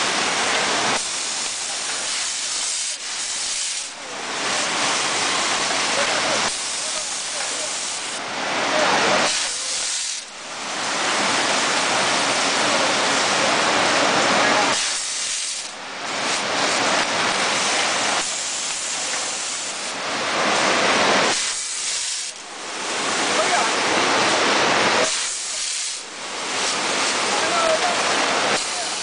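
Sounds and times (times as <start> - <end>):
packaging machine hissing: 0.0 - 8.2, 8.8 - 11.0, 14.5 - 20.0, 20.9 - 22.5, 23.3 - 29.0.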